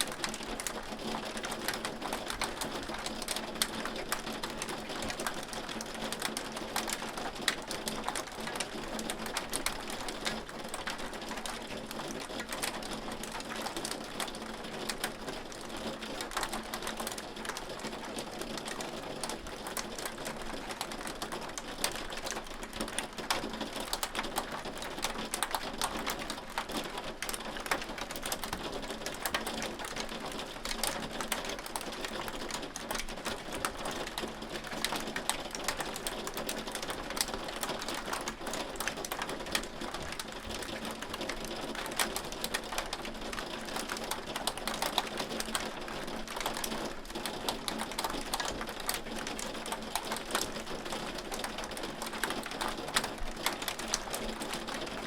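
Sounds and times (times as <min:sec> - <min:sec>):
hail clicking on hard surface: 0:00.0 - 0:55.0.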